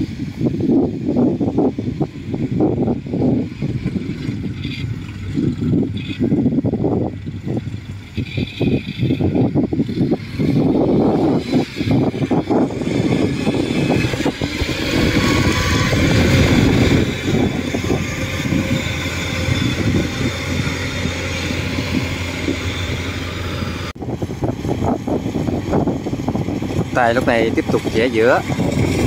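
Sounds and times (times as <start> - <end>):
tracked carrier engine running: 0.0 - 29.0.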